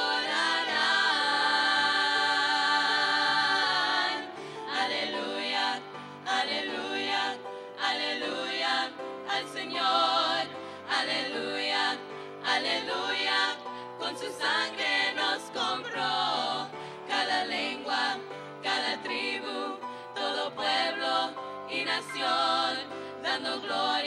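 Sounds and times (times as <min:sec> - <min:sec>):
women singing with vibrato: 0:00.0 - 0:24.0.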